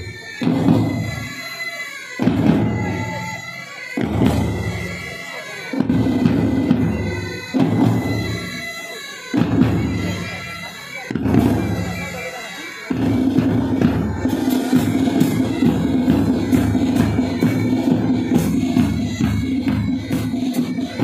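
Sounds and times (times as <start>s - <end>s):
bagpipes playing: 0.0s - 21.0s
side drums: 0.0s - 21.0s.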